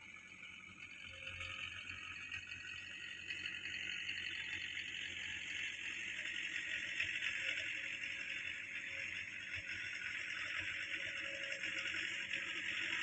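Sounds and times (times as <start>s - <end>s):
distant tractor: 0.0s - 13.0s.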